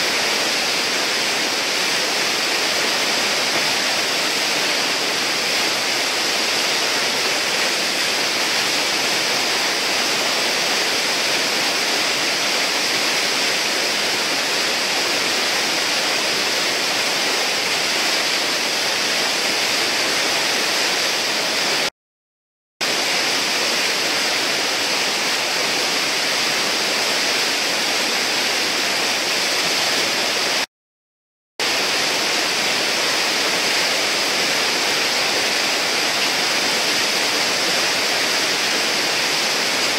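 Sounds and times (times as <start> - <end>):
whitewater rushing roar: 0.0 - 21.9, 22.8 - 30.7, 31.6 - 39.9.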